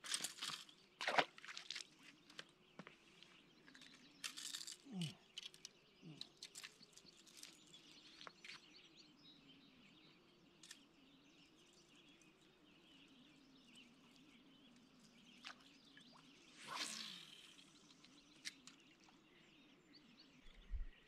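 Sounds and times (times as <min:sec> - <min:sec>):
distant birdsong: 0:02.0 - 0:21.0.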